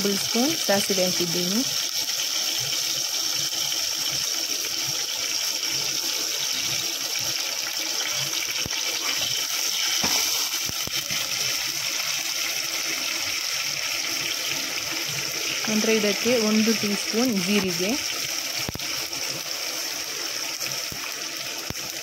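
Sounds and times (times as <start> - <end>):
seeds sizzling in hot oil: 0.0 - 22.0.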